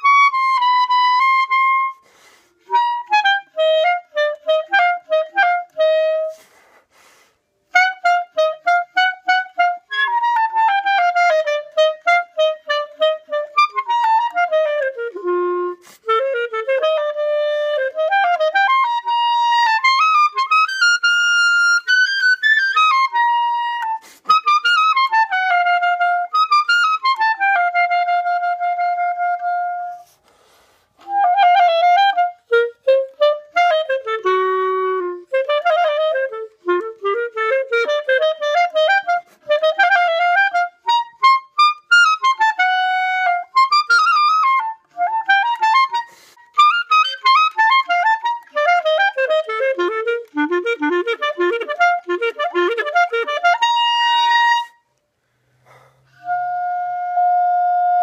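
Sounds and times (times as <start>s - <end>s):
solo clarinet playing: 0.0s - 55.0s, 55.6s - 58.0s.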